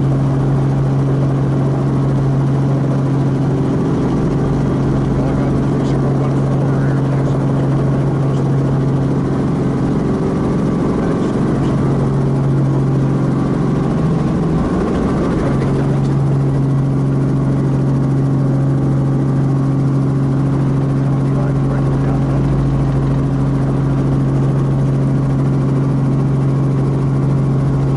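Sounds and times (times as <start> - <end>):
constant low hum: 0.0 - 27.9
helicopter engine and rotor noise: 0.0 - 27.9.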